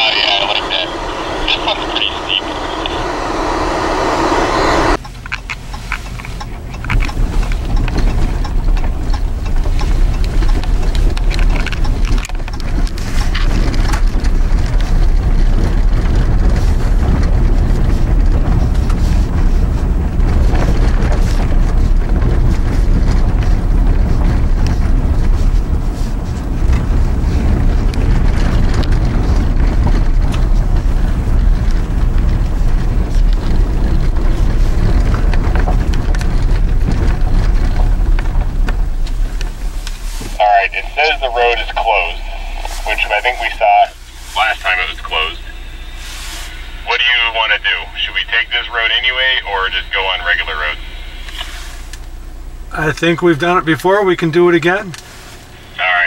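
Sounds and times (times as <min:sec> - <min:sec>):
tyre and drivetrain rumble: 0:00.0 - 0:56.0.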